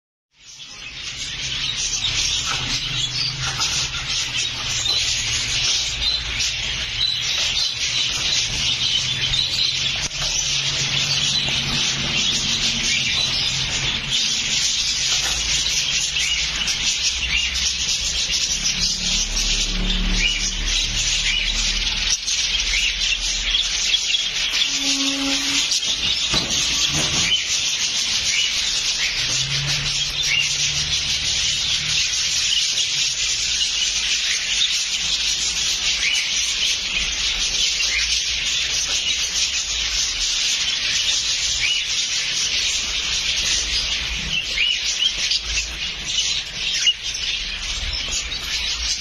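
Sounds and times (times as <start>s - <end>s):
lovebirds chirping: 0.4s - 49.0s.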